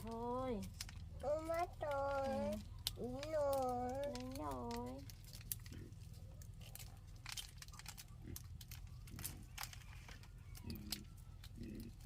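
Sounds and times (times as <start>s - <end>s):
faint murmurs: 0.0s - 12.0s
steady low hum: 0.0s - 12.0s
fruit cracking and peeling: 0.1s - 12.0s.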